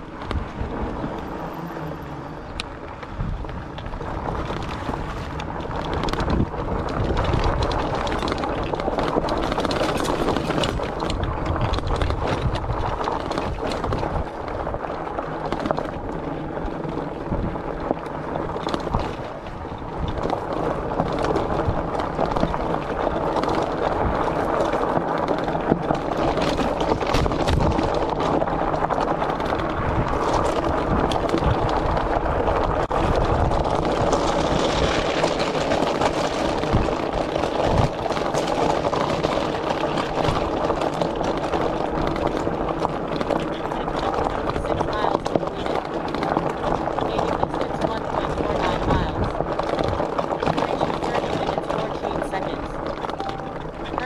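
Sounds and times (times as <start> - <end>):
tyres rumbling on path: 0.0 - 54.0
wind buffeting microphone: 0.0 - 54.0
bike clicks and knocks: 2.5 - 54.0.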